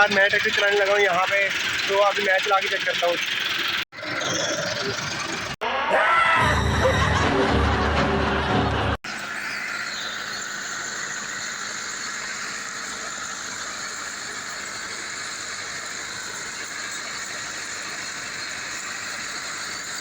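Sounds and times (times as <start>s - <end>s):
tractor engine running: 0.0s - 5.6s, 6.6s - 20.0s.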